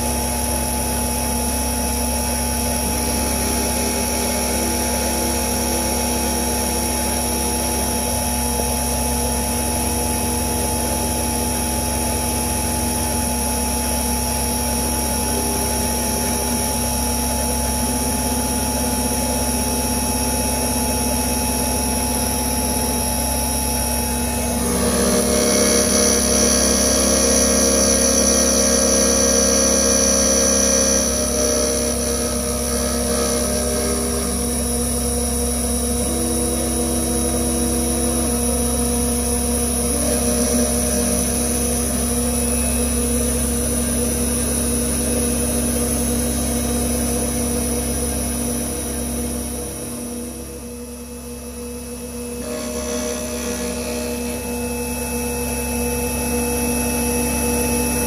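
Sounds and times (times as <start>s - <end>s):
milling machine whining: 0.0s - 58.0s.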